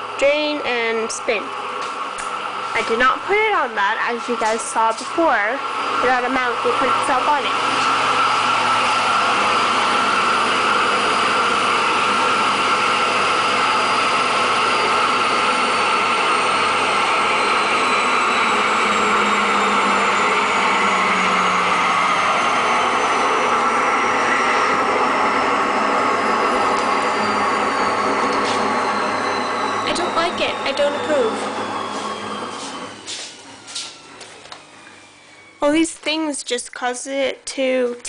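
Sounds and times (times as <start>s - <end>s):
high motor whine: 0.0s - 36.2s
washing machine spin cycle whir: 0.0s - 38.0s.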